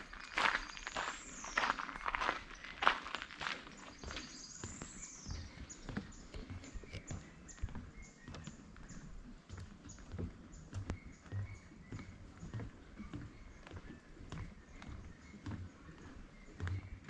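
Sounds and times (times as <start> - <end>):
footsteps on woodland path: 0.0 - 17.0.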